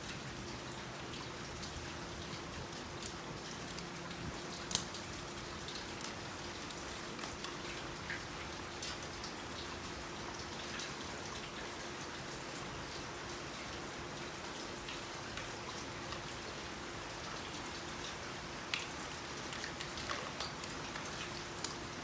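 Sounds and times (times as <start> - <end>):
crackles of basket weaving material: 0.1 - 11.6, 14.6 - 22.0.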